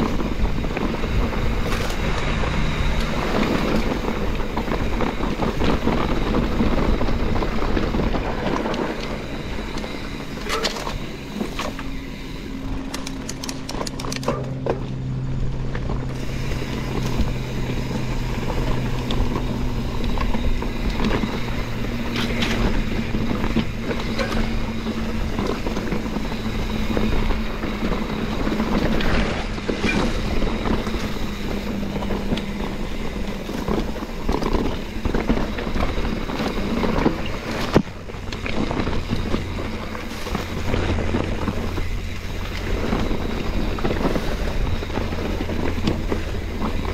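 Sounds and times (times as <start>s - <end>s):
tyres crunching over gravel: 0.0s - 46.9s
wind on microphone: 0.0s - 46.9s.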